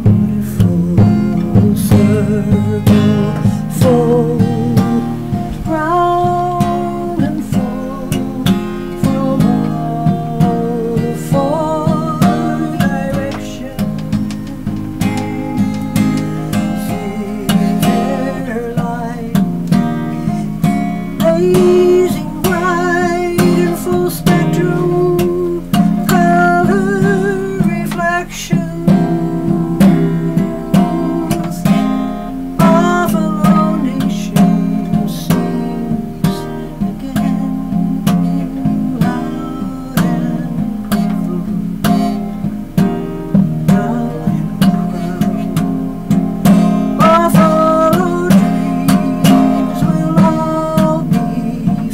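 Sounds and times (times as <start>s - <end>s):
acoustic guitar strumming: 0.0s - 51.9s
woman singing folk-style: 0.0s - 51.9s.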